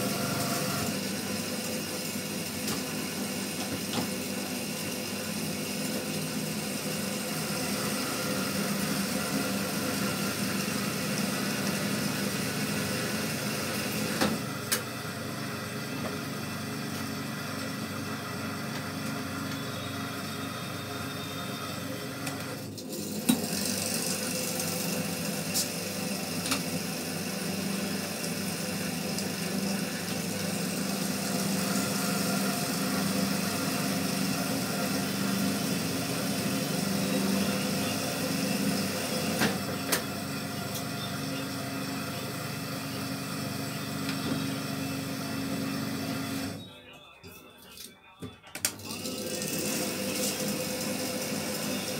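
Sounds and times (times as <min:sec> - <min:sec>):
winding machine motor hum: 0:00.0 - 0:46.6.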